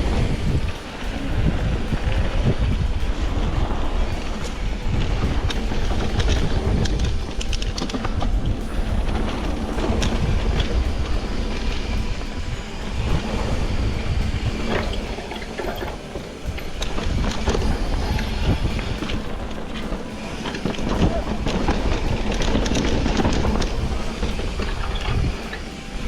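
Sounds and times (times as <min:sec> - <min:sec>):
low rumble of road noise: 0:00.0 - 0:26.0
wind buffeting microphone: 0:00.0 - 0:26.0.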